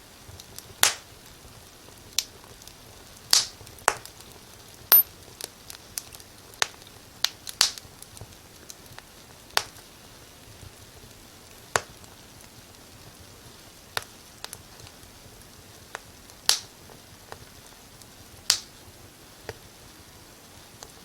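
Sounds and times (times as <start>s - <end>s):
faint steady hiss: 0.0s - 21.0s
wood fire crackling: 0.1s - 21.0s.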